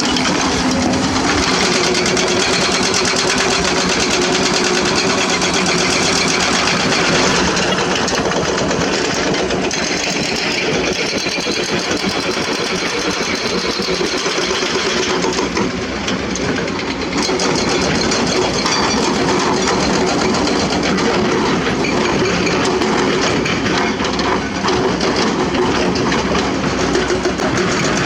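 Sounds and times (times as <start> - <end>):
excavator diesel engine clattering: 0.0 - 28.0.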